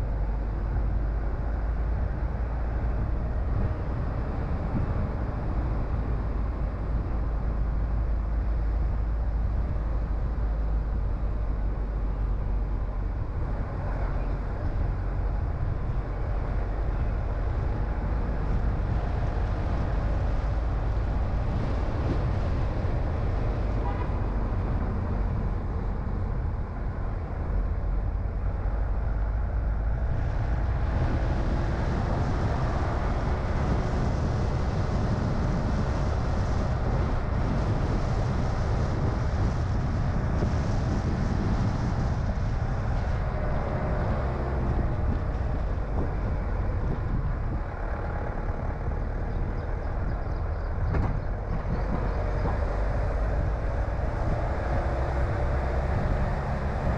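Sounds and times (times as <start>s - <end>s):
car interior engine and tyre noise: 0.0s - 56.9s.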